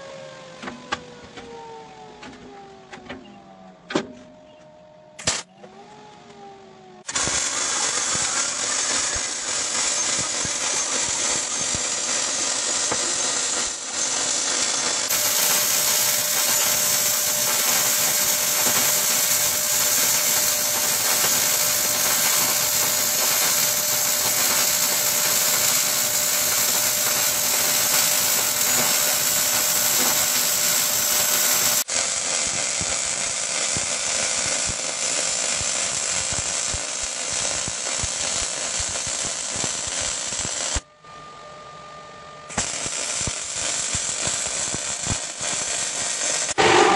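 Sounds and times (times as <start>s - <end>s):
welding arc crackling buzz: 7.0s - 40.8s, 42.5s - 46.9s.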